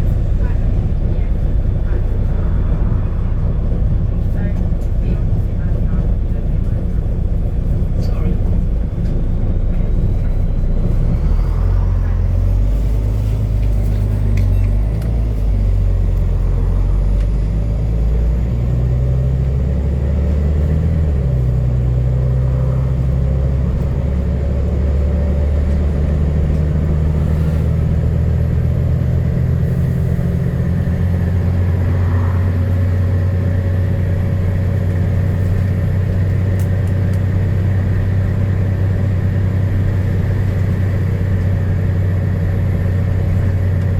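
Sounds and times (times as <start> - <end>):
bus diesel engine pulling uphill: 0.0 - 43.9.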